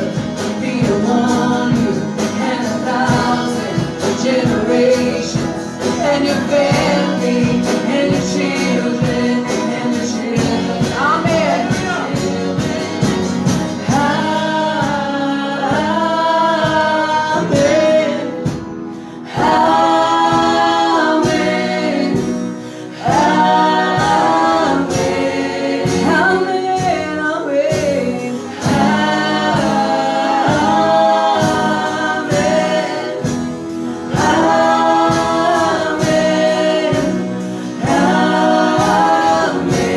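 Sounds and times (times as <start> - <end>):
gospel singing with instruments: 0.0 - 39.9.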